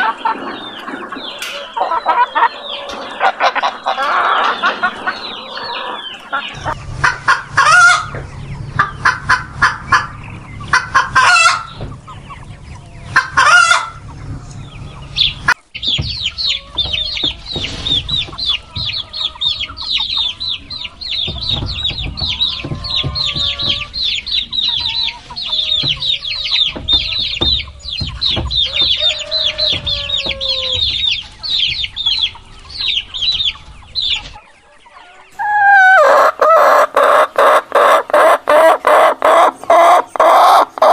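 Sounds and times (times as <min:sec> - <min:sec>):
chickens cackling: 0:00.0 - 0:40.9
chicks peeping: 0:00.0 - 0:40.9
hen clucking: 0:00.0 - 0:40.9.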